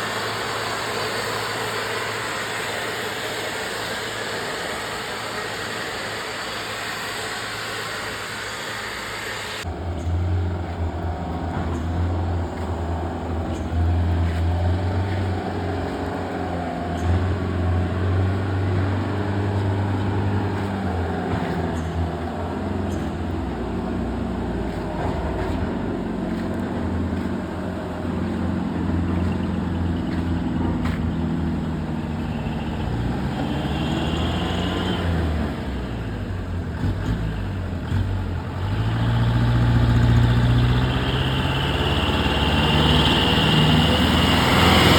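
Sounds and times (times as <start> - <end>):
road noise: 0.0 - 44.9
truck diesel engine running hard: 0.0 - 44.9.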